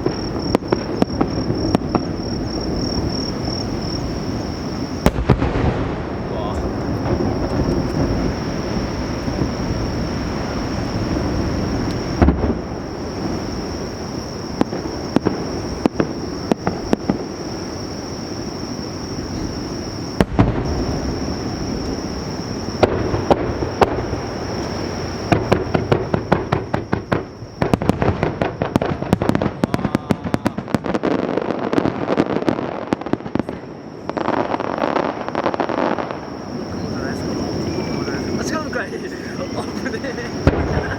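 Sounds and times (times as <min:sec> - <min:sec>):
fireworks booming and crackling: 0:00.0 - 0:40.9.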